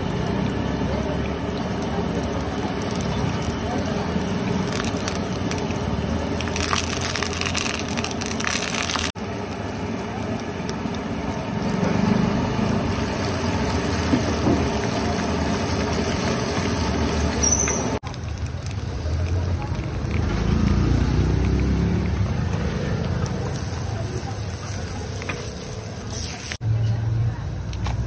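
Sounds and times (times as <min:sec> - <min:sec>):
gas burner rush: 0:00.0 - 0:26.6
vegetables sizzling in wok: 0:00.0 - 0:26.6.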